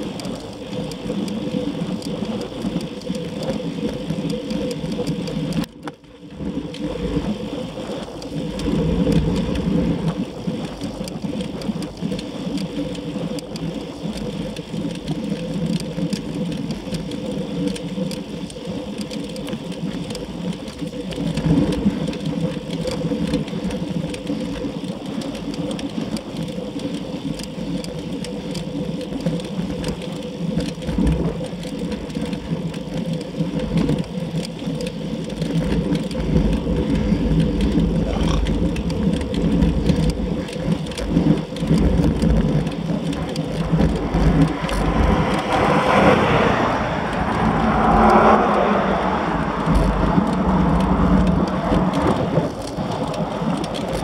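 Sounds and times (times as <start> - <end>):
bicycle tyres whirring on asphalt: 0.0 - 54.0.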